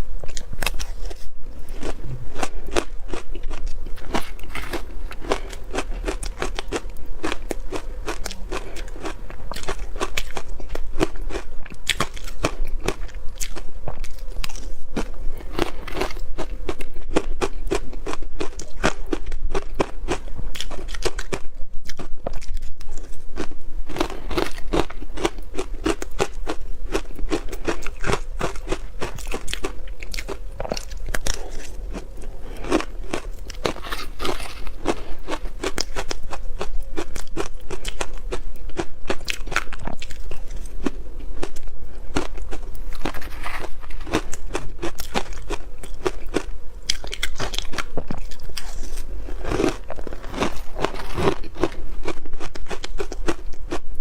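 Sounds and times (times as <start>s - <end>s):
ice crunching being chewed: 0.2s - 53.9s.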